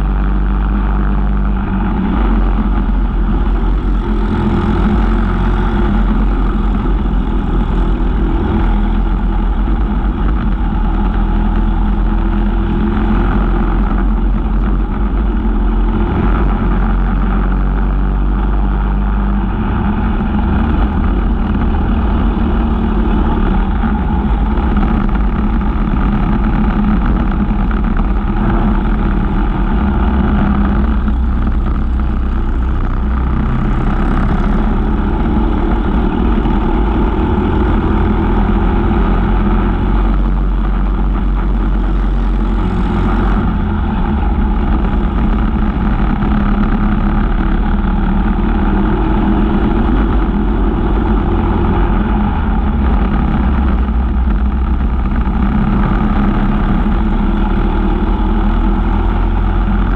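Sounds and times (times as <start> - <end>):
kart engines racing: 0.0 - 59.9.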